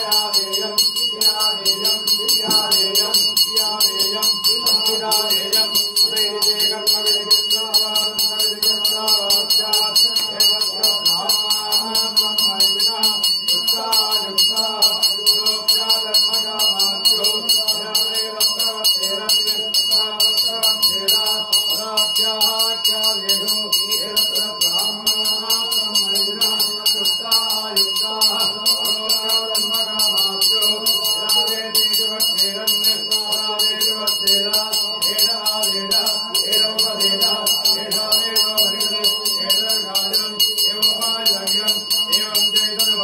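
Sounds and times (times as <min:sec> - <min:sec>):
brass hand bell ringing: 0:00.0 - 0:43.0
chanting: 0:00.0 - 0:43.0.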